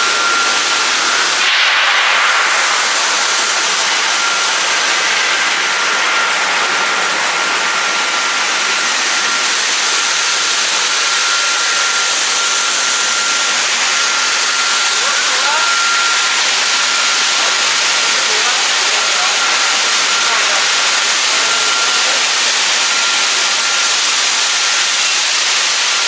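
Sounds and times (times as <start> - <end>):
thin machine whine: 0.0 - 26.0
water spray hissing: 0.0 - 26.0.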